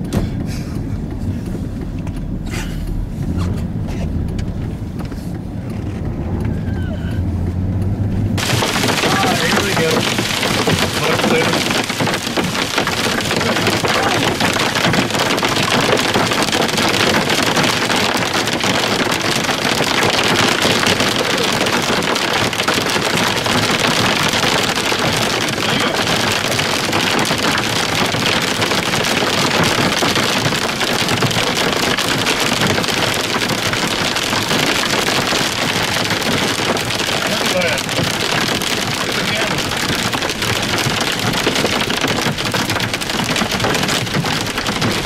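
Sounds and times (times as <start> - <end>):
rain and hail on a car: 0.0 - 45.0.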